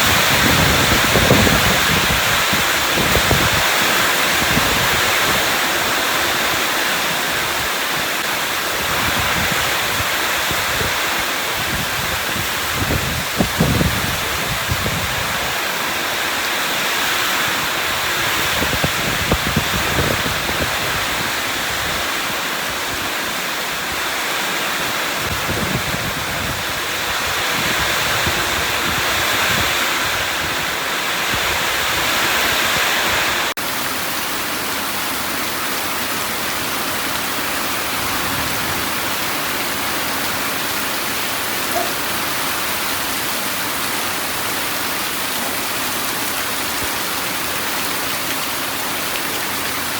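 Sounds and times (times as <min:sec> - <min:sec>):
heavy rain hiss: 0:00.0 - 0:49.9.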